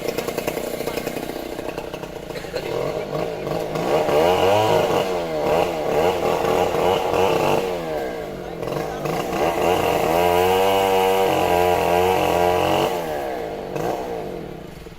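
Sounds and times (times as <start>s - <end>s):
chainsaw engine running: 0.0s - 14.9s.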